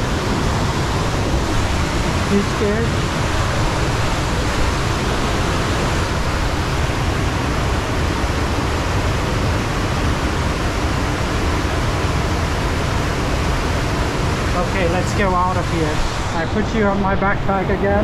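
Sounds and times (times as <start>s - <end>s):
loud low rushing noise: 0.0s - 18.0s.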